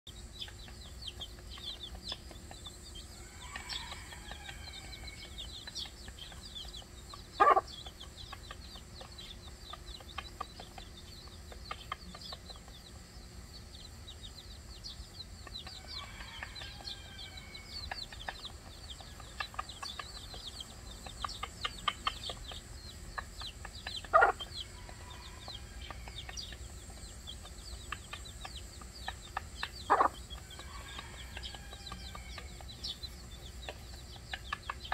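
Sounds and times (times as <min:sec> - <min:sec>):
chicks peeping: 0:00.1 - 0:34.9
hen clucking: 0:00.1 - 0:34.9.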